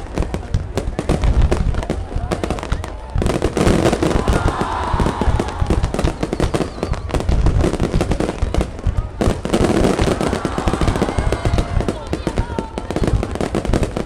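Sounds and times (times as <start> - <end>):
fireworks crackling: 0.0 - 14.0
low rumble of fireworks bangs: 0.0 - 14.0.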